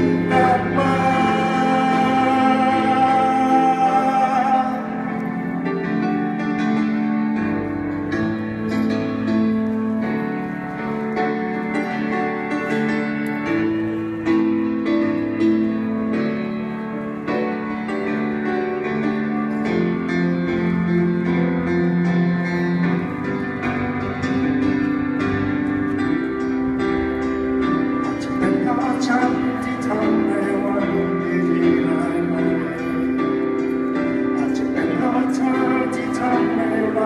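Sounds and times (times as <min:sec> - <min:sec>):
piano chords: 0:00.0 - 0:37.0.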